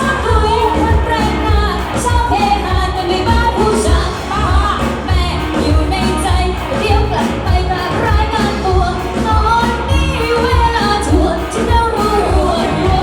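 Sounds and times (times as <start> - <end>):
live pop band: 0.0 - 13.0
person singing: 0.0 - 13.0.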